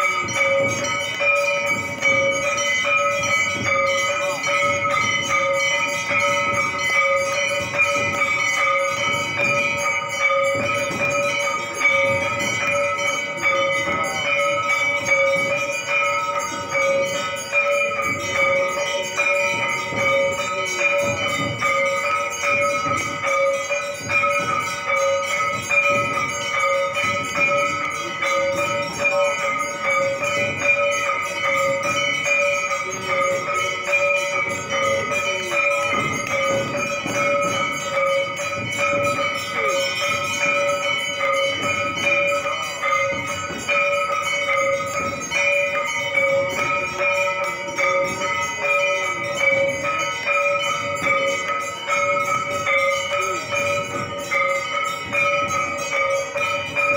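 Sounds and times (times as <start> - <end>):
bells ringing rapidly: 0.0 - 56.9.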